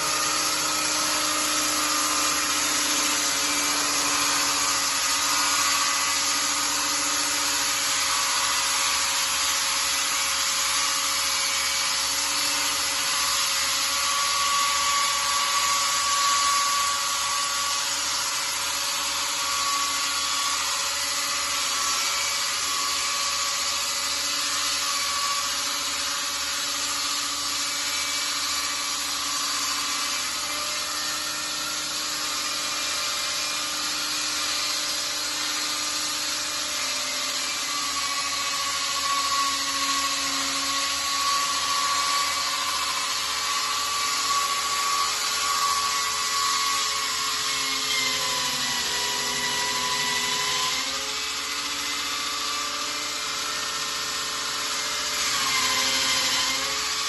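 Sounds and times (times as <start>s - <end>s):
core drill grinding into concrete: 0.0s - 57.0s.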